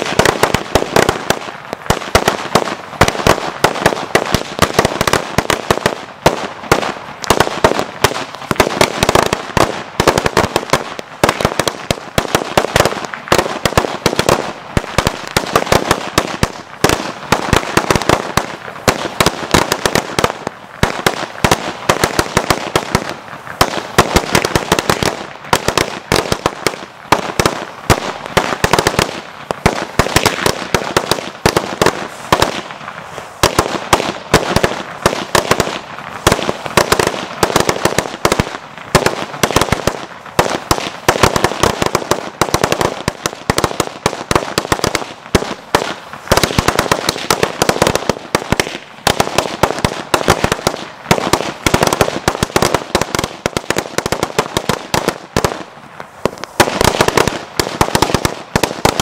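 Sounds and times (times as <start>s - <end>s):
firecrackers going off: 0.0s - 59.0s.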